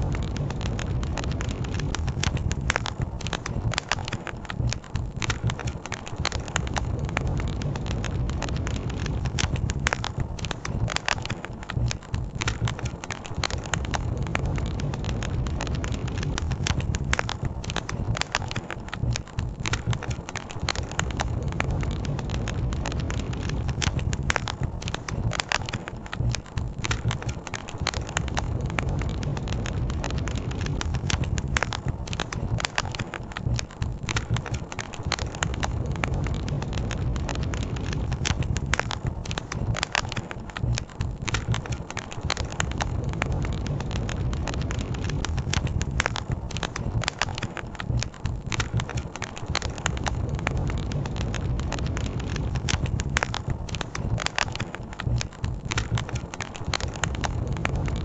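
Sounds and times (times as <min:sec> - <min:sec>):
campfire crackling and popping: 0:00.0 - 0:58.0
steady low rush: 0:00.0 - 0:58.0.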